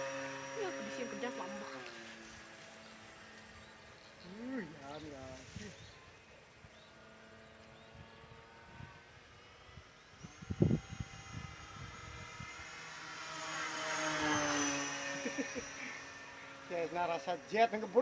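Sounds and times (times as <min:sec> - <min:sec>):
model plane motor droning: 0:00.0 - 0:18.0.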